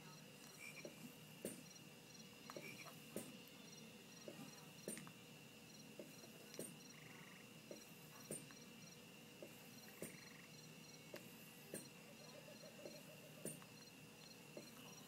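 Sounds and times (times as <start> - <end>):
steady high whine: 0.0 - 15.0.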